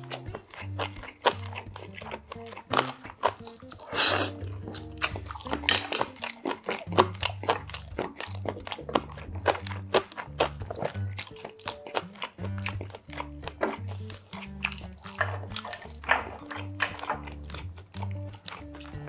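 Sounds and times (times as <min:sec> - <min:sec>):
background music with low notes: 0:00.0 - 0:19.0
man chewing with mouth clicks: 0:00.0 - 0:19.0.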